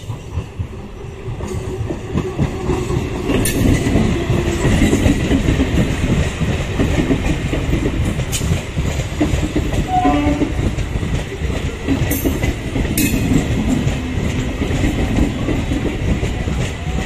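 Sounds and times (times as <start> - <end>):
train wheels rumbling over rails: 0.0 - 17.0.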